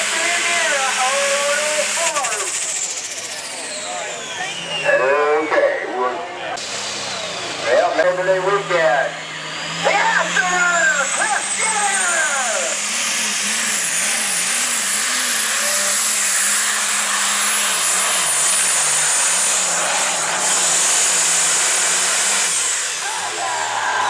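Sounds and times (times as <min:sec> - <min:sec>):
diesel tractor engine roaring: 0:00.0 - 0:24.0
high engine whine: 0:00.0 - 0:24.0.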